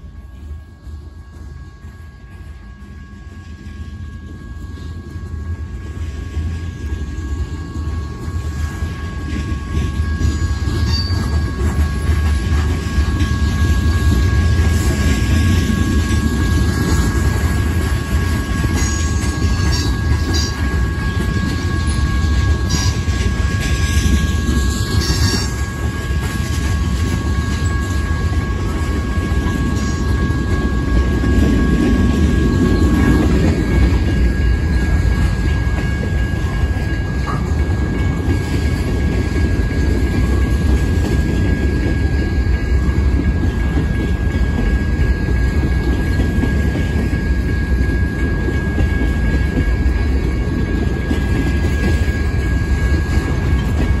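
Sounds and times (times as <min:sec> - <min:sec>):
rail joint clicks: 0:00.0 - 0:54.0
train wheels rumbling on rail: 0:00.0 - 0:54.0.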